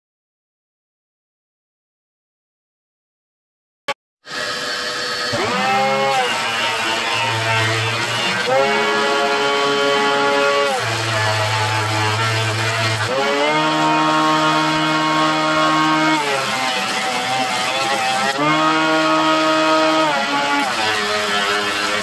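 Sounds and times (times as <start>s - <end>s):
jointer motor whine: 4.2s - 22.0s.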